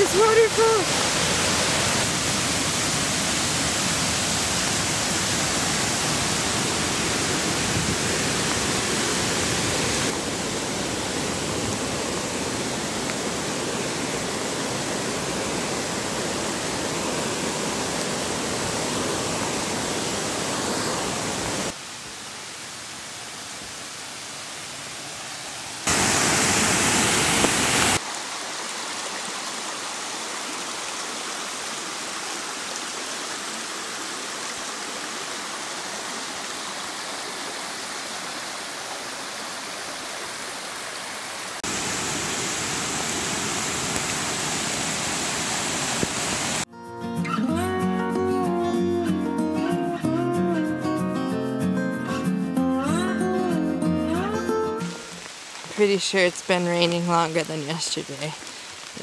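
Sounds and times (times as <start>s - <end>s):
mountain stream and waterfall: 0.0s - 59.0s.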